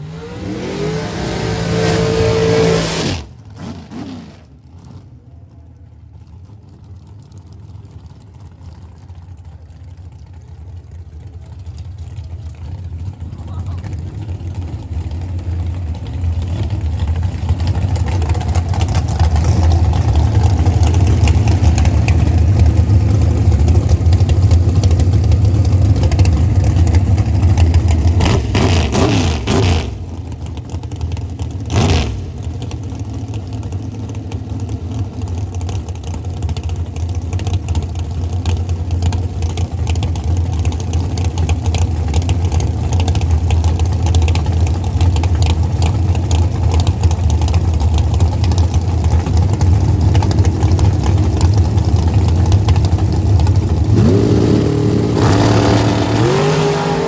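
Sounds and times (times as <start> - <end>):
race car engines rumbling: 0.0 - 57.0.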